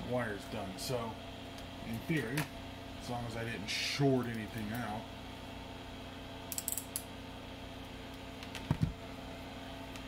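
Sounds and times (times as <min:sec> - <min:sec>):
exhaust fan hum: 0:00.0 - 0:10.0.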